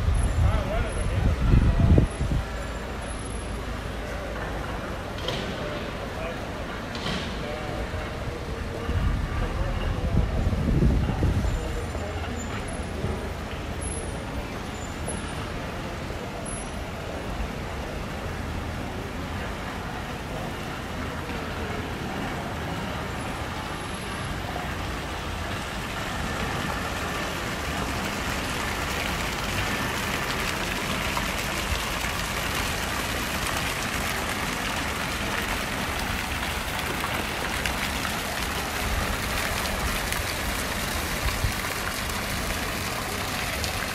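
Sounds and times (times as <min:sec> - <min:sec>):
fountain water splashing: 0:00.0 - 0:43.9
low city rumble: 0:00.0 - 0:43.9.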